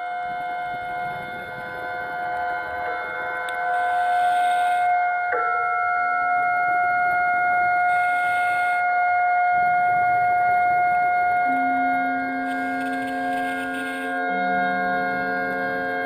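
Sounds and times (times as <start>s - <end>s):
slow ambient music: 0.0s - 16.0s.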